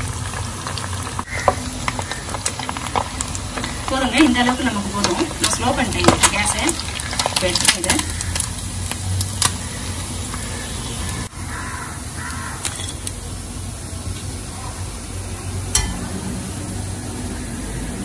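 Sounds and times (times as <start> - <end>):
fish sizzling in oil: 0.0 - 18.0
steady hiss: 0.0 - 18.0.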